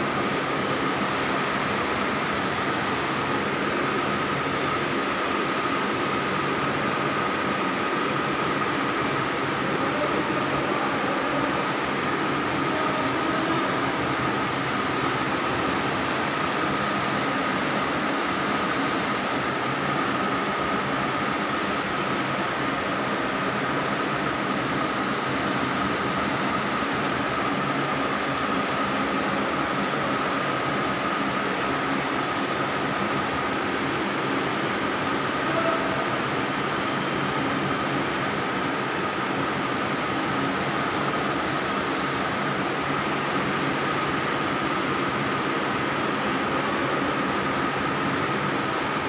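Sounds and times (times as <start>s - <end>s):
electric fans whirring: 0.0s - 49.0s
thin steady whine: 0.0s - 49.0s.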